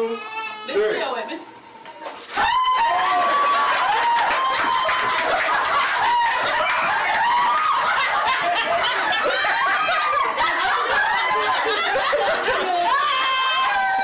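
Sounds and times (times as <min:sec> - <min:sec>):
people laughing and shrieking: 0:02.3 - 0:14.0.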